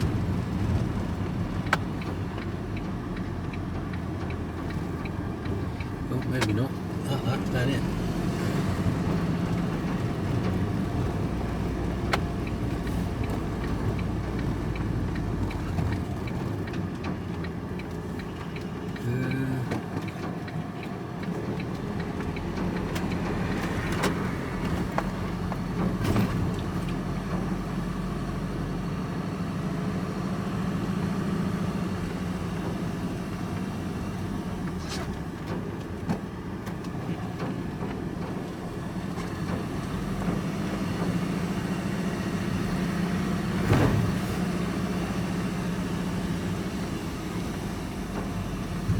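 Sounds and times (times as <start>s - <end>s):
vehicle engine and road hum: 0.0s - 48.9s.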